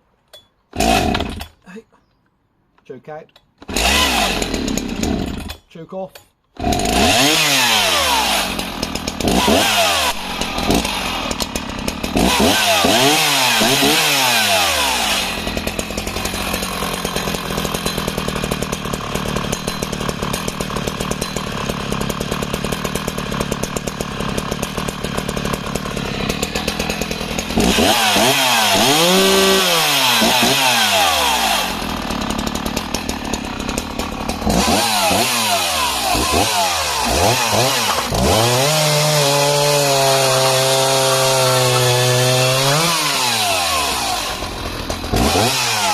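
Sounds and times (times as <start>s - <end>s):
chainsaw revving and cutting log: 0.7s - 1.6s, 3.6s - 5.7s, 6.6s - 45.9s.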